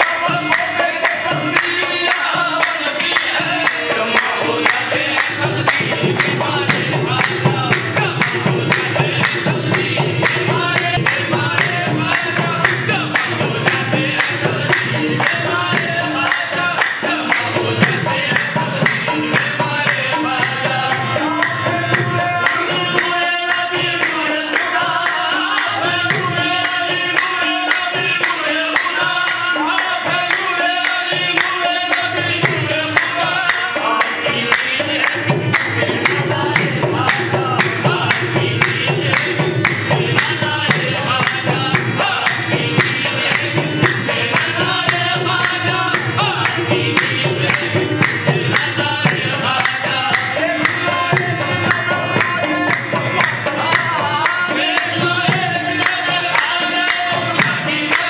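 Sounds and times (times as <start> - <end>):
hand drum beat: 0.0 - 58.0.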